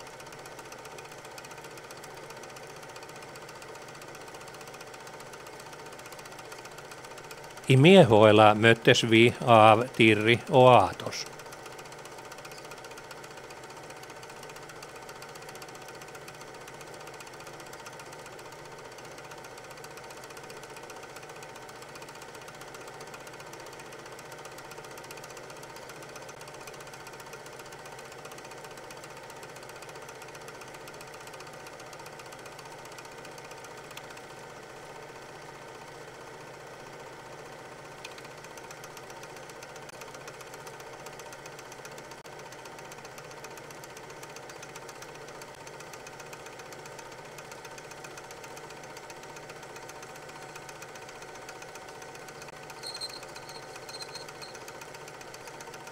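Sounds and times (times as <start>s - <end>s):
film projector clatter: 0.0s - 7.7s, 11.3s - 55.9s.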